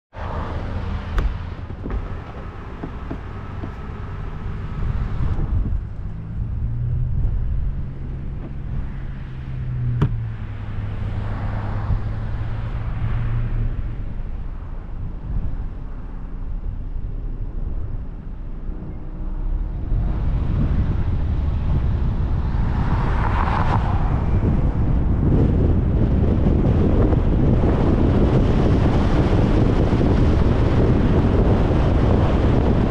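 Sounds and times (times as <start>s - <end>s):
car engine: 0.1s - 32.9s
road noise: 0.1s - 32.9s.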